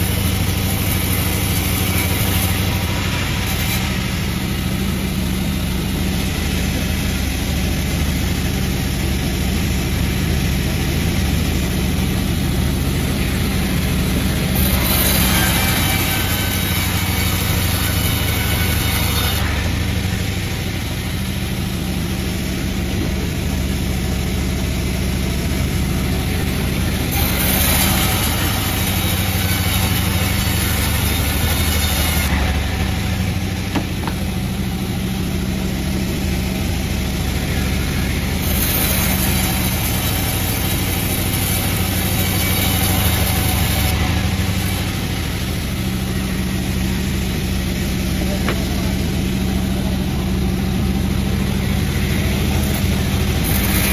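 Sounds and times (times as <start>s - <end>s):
saw cutting wood: 0.0s - 53.9s
saw machine engine running: 0.0s - 53.9s.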